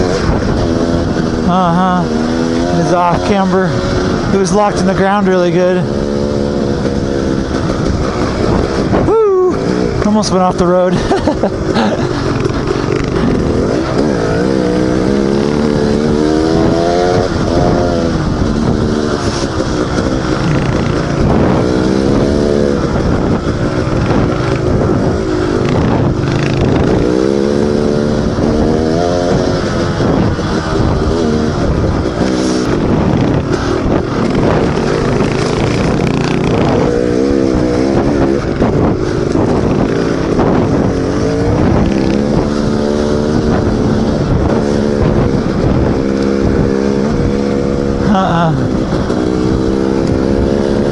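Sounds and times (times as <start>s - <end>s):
dirt bike engine revving: 0.0s - 50.9s
steady rushing noise: 0.0s - 50.9s.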